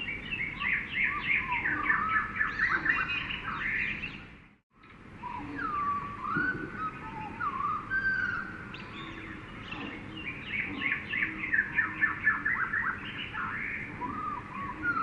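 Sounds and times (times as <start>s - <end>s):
birds whistling: 0.0s - 4.4s, 5.2s - 15.0s
steady background hiss: 0.0s - 15.0s.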